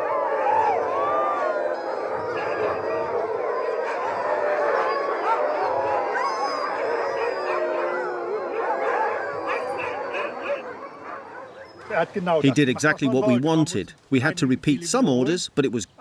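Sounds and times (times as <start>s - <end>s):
huskies howling and yipping: 0.0s - 13.4s.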